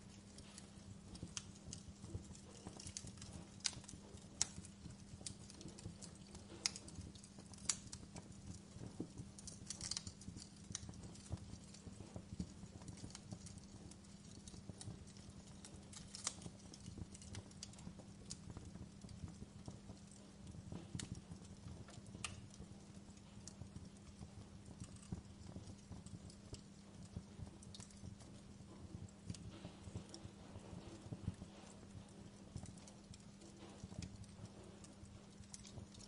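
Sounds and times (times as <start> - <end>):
low steady hum: 0.0 - 36.0
wood fire crackling and popping: 0.0 - 36.0.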